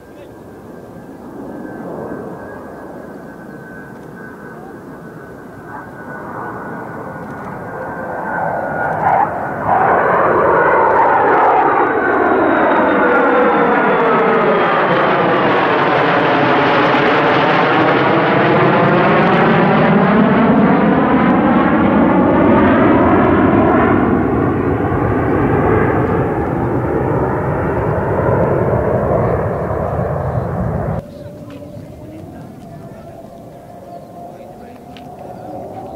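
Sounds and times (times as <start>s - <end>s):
jet fighters roaring overhead: 0.0s - 35.9s.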